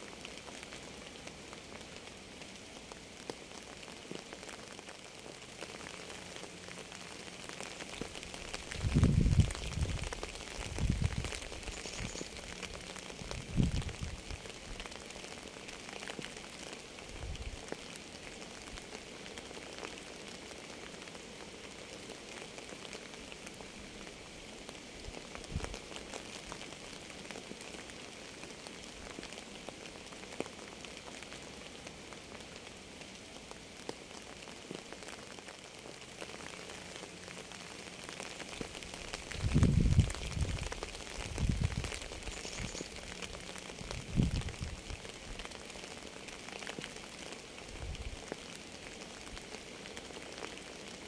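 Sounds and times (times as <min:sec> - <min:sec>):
rain drops ticking on a surface: 0:00.0 - 0:51.0.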